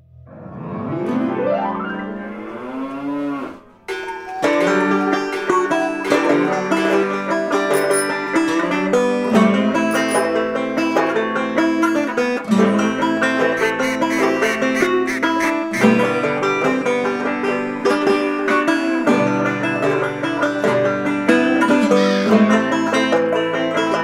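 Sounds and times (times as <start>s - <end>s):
fast plucked-string music: 3.8s - 24.0s.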